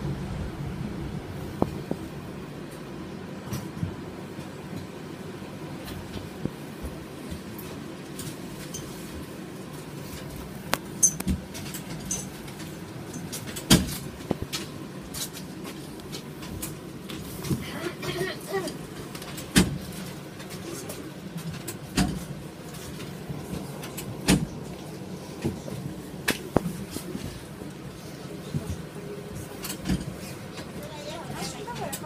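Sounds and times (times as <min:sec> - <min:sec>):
tram interior low hum: 0:00.0 - 0:32.0.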